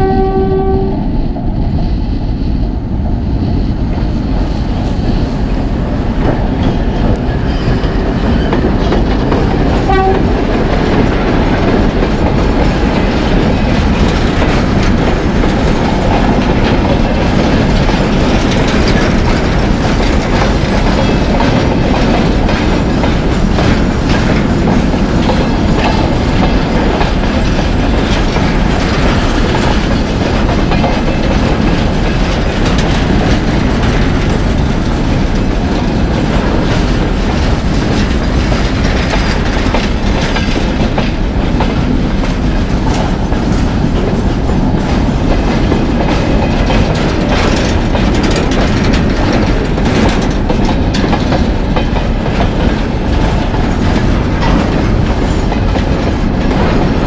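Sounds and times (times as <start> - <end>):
diesel locomotive rumbling on rails: 0.0 - 57.0.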